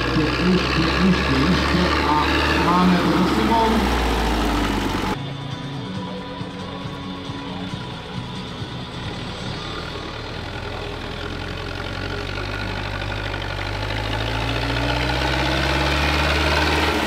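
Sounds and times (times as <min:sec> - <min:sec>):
tractor diesel engine labouring: 0:00.0 - 0:17.0.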